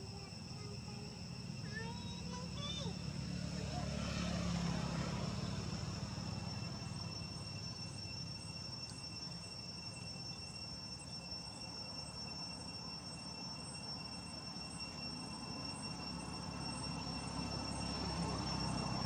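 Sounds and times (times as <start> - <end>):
insects calling: 0.0 - 19.0.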